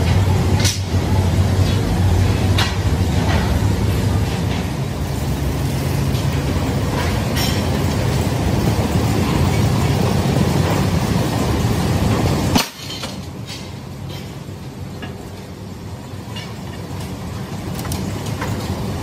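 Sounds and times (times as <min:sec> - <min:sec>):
factory machinery humming: 0:00.0 - 0:19.0.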